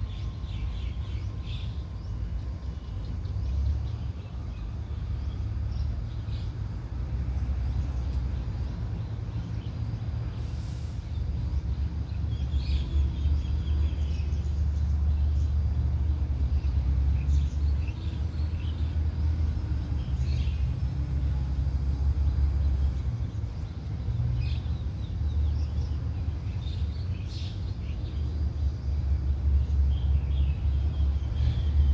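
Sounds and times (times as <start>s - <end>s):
diesel engine rumbling: 0.0s - 31.9s.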